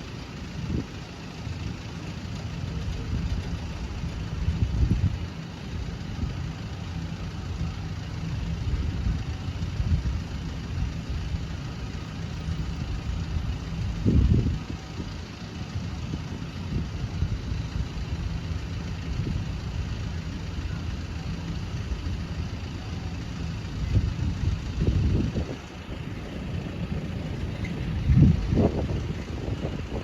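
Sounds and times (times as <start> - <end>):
vehicle engines idling: 0.0 - 30.0.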